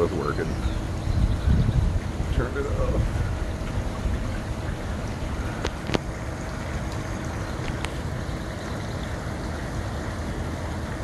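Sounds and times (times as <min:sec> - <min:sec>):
ceiling fans humming: 0:00.0 - 0:11.0
wind noise on microphone: 0:00.0 - 0:11.0.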